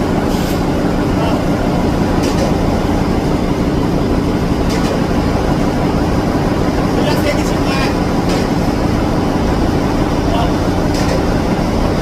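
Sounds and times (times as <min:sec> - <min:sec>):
heavy machinery droning: 0:00.0 - 0:12.0.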